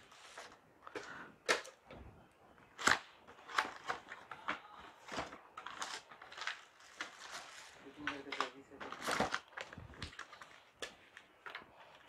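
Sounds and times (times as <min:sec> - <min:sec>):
cardboard box and plastic rustling: 0:00.0 - 0:01.6, 0:02.7 - 0:12.0.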